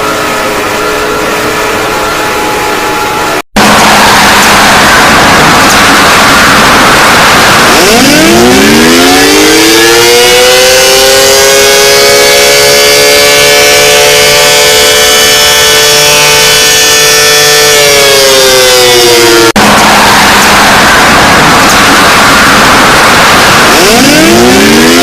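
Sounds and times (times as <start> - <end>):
siren winding up: 0.0 - 25.0.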